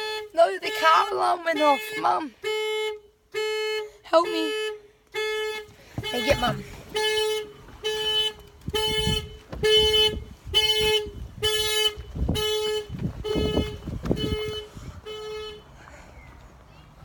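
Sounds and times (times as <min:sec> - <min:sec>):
car horn honking: 0:00.0 - 0:15.8.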